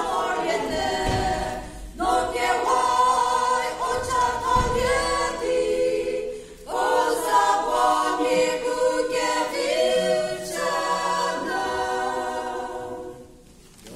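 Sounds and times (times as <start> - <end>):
women's choir singing a cappella: 0.0 - 13.6.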